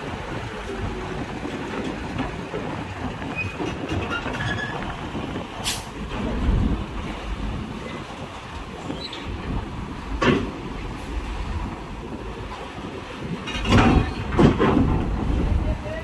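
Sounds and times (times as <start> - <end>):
truck engine and ramp rumbling: 0.0 - 16.0.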